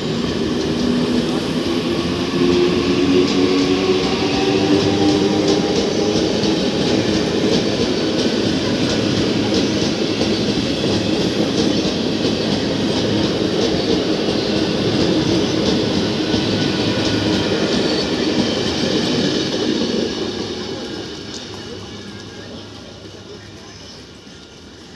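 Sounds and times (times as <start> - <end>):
train wheels clicking over rail joints: 2.3 - 23.0.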